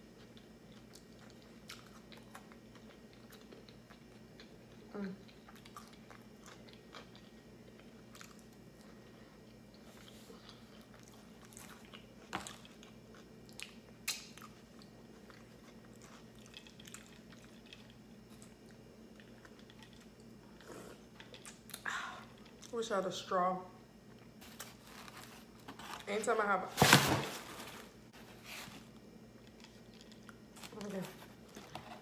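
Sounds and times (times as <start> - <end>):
chewing food: 0.0 - 22.8, 28.9 - 32.0
faint low hum: 0.0 - 32.0.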